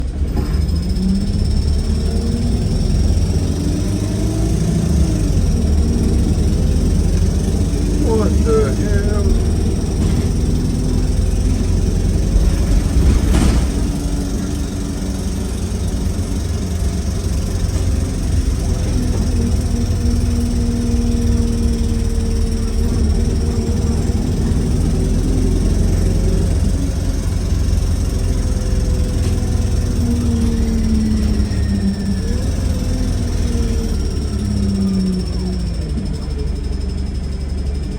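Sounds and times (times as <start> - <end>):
bus low pulsing noise: 0.0 - 37.9.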